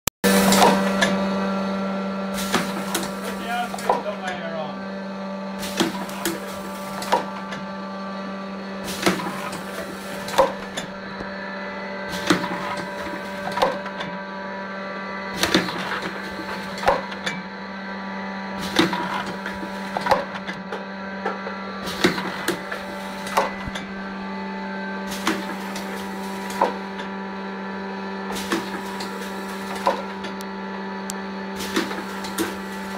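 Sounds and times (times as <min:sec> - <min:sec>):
machine humming: 0:00.2 - 0:32.9.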